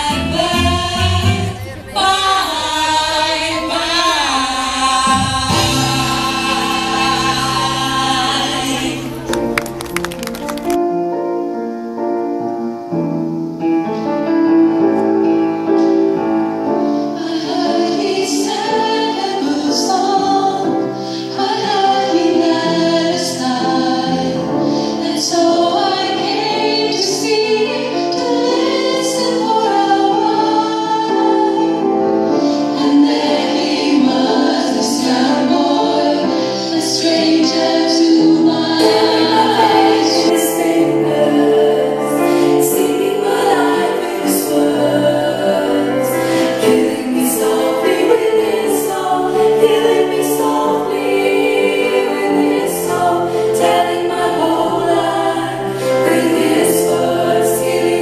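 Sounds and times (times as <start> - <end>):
women singing in harmony: 0.0 - 9.4, 14.9 - 58.0.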